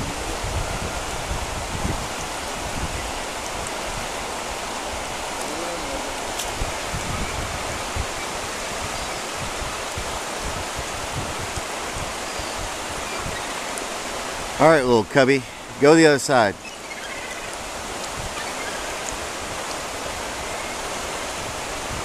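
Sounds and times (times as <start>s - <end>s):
river rushing over riffles: 0.0s - 22.0s.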